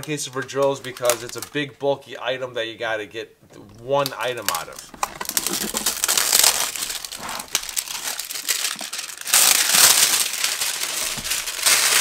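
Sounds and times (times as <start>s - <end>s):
plastic wrapping crinkling: 0.0s - 1.7s, 3.8s - 12.0s.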